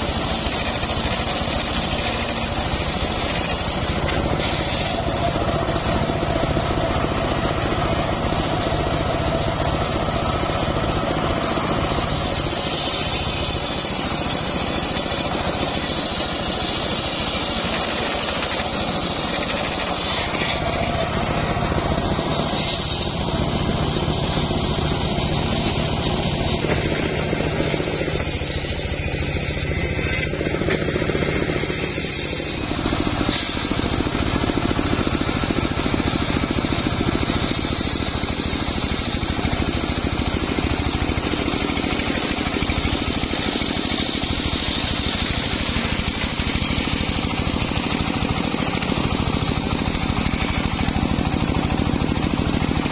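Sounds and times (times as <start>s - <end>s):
circular saw cutting wood: 0.0s - 52.9s.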